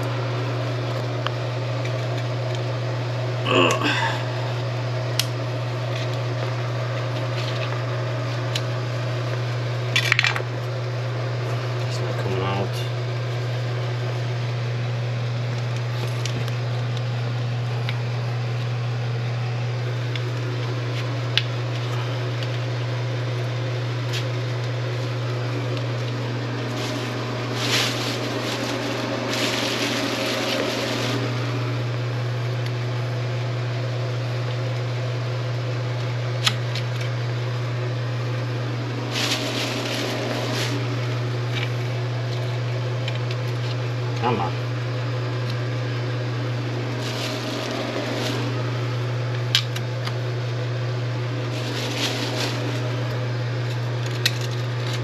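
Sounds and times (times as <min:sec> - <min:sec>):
drain cleaning machine humming: 0:00.0 - 0:55.0.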